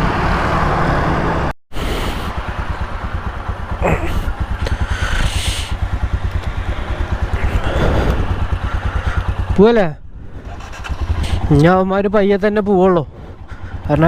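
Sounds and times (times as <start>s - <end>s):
motorcycle engine running: 1.8s - 14.0s.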